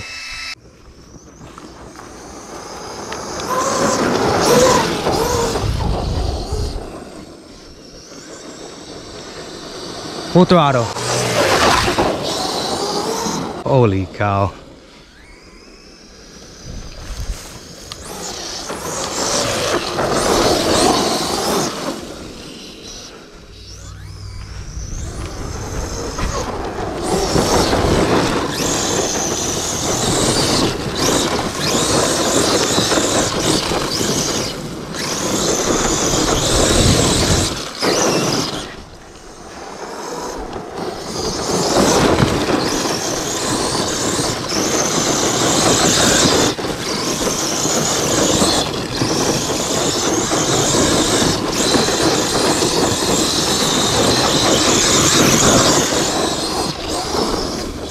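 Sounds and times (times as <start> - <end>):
tyres tearing through dirt: 0.0 - 7.3, 7.9 - 13.6, 16.8 - 57.9
electric rc truck motor whining: 0.0 - 13.6, 14.6 - 57.9.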